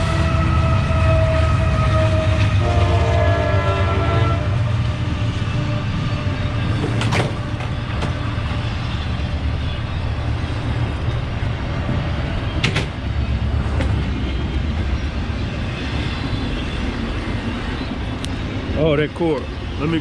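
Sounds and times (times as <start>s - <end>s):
passing train rumble: 0.0s - 20.0s.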